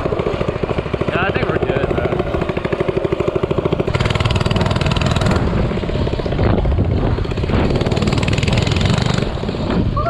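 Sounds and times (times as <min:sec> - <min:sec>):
minibike engine running: 0:00.0 - 0:10.0.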